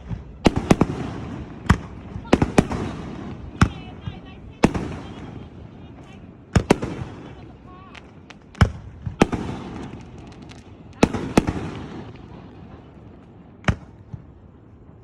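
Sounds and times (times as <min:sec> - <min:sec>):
loud firework bangs with echo: 0:00.0 - 0:13.0, 0:13.6 - 0:14.4
firework crackles: 0:00.0 - 0:15.0.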